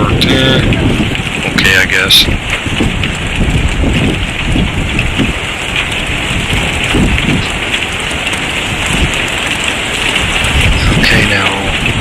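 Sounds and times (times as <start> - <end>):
heavy rain pelting down: 0.0 - 12.0
wind rumbling on microphone: 0.0 - 12.0.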